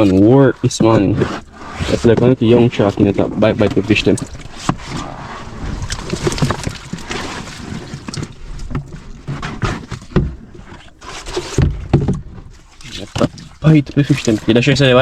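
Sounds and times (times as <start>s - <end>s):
knocks and clatter of gear: 0.0s - 15.0s
water sloshing against hull: 0.0s - 15.0s
wind: 0.0s - 15.0s.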